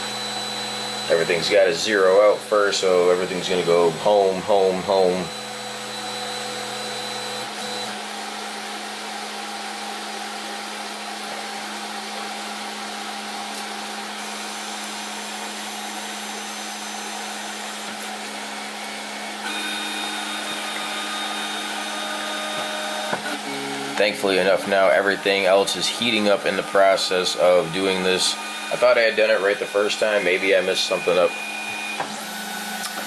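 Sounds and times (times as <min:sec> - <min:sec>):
stepper motor whine: 0:00.0 - 0:08.1, 0:11.6 - 0:33.0
printer fans whirring: 0:00.0 - 0:33.0.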